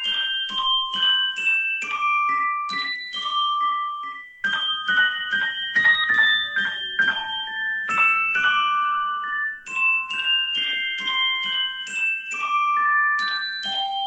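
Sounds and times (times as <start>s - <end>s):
music box melody: 0.0s - 14.0s.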